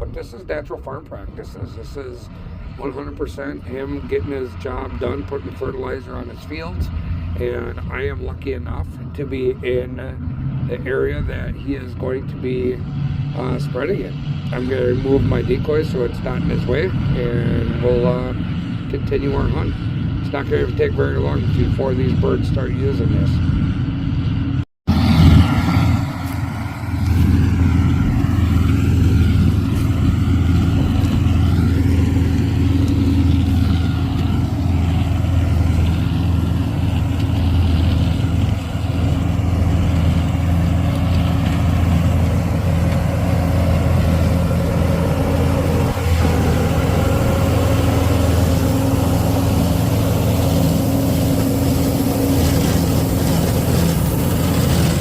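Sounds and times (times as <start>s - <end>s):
farm vehicle engine droning: 0.0s - 55.0s.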